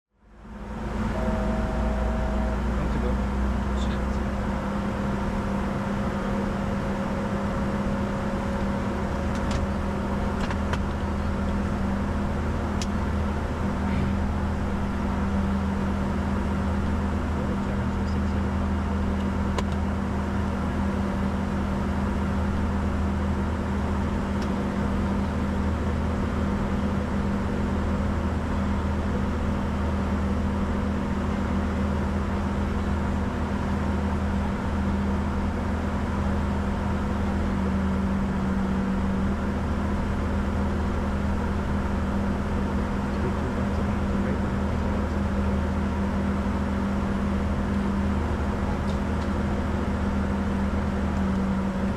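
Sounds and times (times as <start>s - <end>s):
constant low hum: 0.1s - 51.9s
aircraft cabin rush: 0.9s - 51.9s.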